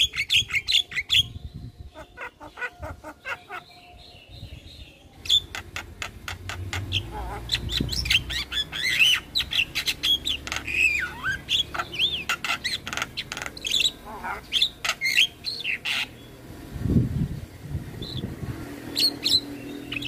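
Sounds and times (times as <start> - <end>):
myna bird singing: 0.0 - 20.0.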